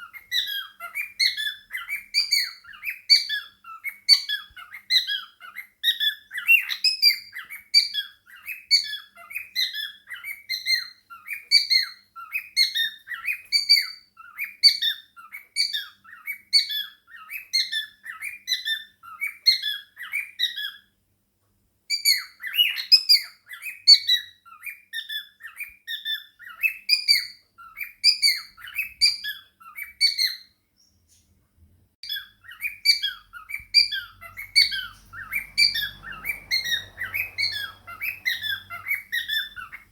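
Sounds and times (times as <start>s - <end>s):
parrots chattering: 0.0s - 20.9s, 21.9s - 30.5s, 32.0s - 39.9s.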